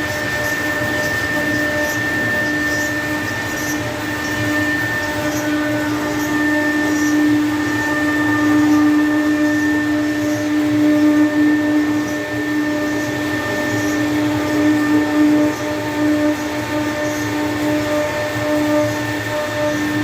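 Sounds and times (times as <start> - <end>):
hissing cutting noise: 0.0 - 20.0
router motor whine: 0.0 - 20.0.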